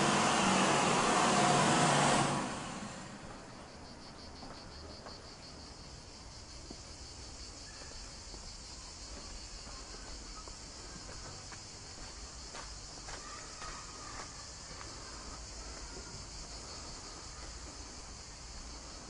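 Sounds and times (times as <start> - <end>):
insects chirring: 2.9 - 19.0.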